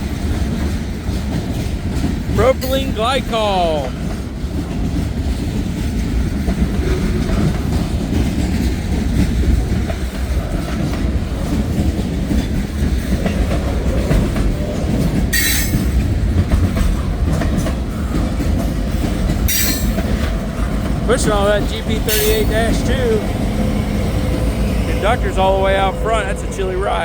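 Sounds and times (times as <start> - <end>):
wheels clickety-clack over joints: 0.0 - 3.0, 3.9 - 26.8
freight train rumbling: 0.0 - 27.0.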